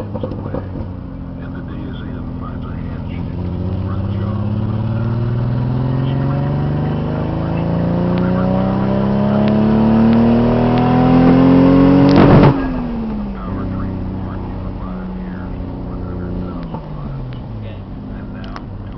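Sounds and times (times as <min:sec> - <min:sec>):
car engine accelerating hard: 0:00.0 - 0:18.9.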